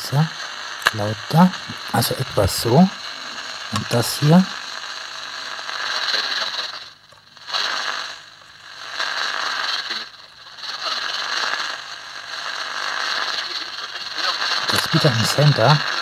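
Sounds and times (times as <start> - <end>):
radio static hiss and crackle: 0.0 - 16.0.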